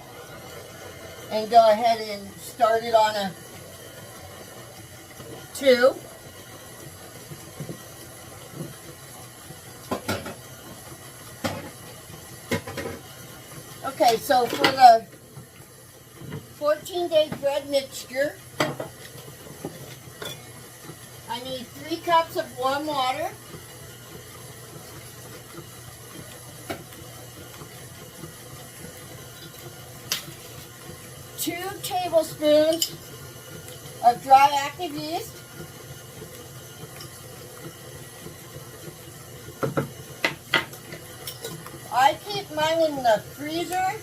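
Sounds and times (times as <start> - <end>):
stand mixer running: 0.0 - 44.0.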